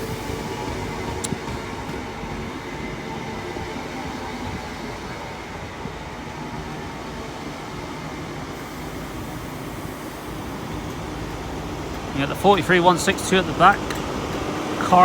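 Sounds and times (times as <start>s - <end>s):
train wheels and engines rumbling: 0.0s - 15.0s.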